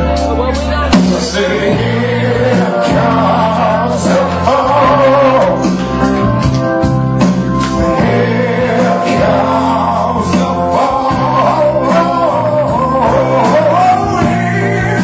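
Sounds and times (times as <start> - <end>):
music with beat and bass: 0.0 - 15.0
person singing: 0.6 - 6.0, 7.8 - 15.0.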